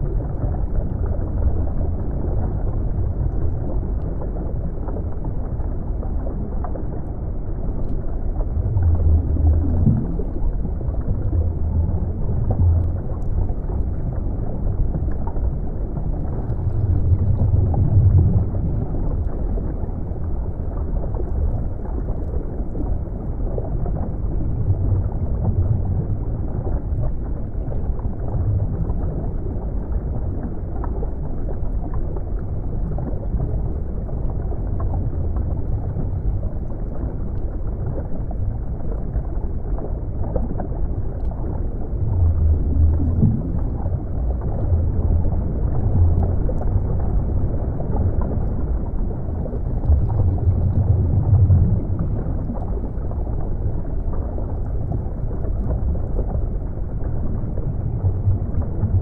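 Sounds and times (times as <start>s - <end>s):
muffled underwater water rumble: 0.0s - 59.0s.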